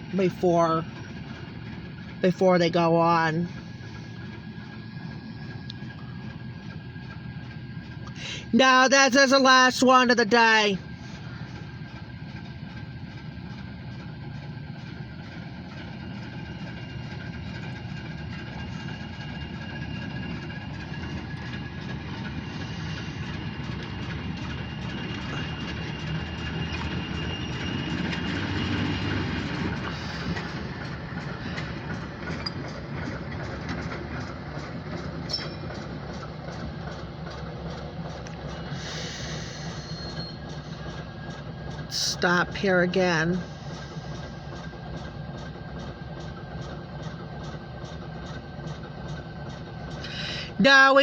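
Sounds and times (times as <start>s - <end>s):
diesel locomotive engine droning: 0.0s - 51.0s.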